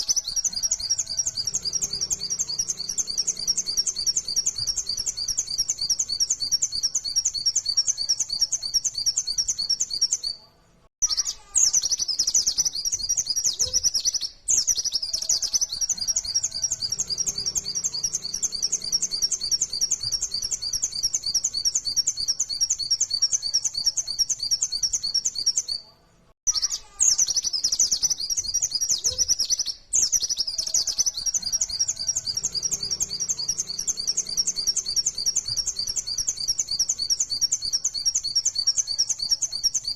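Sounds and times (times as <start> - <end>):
bird singing rapid high notes: 0.0 - 10.4, 11.0 - 25.8, 26.4 - 39.9.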